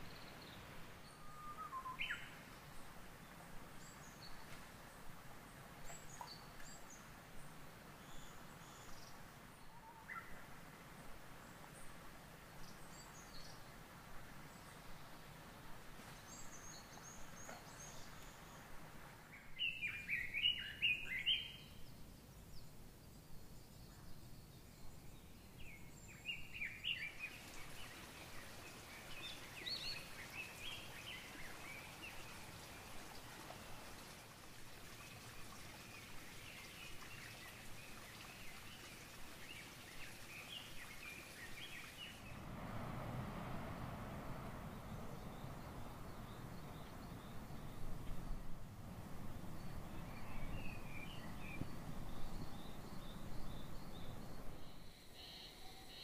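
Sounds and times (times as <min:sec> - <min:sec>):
wild birds singing: 0:00.0 - 0:42.6, 0:44.2 - 0:56.0
steady background hiss: 0:00.0 - 0:56.0.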